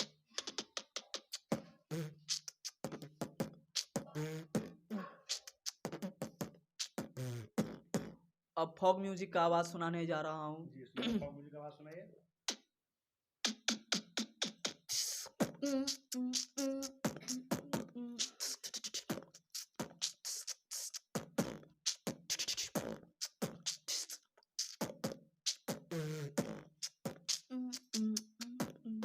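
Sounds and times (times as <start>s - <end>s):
man beatboxing: 0.0s - 8.2s, 13.4s - 29.0s.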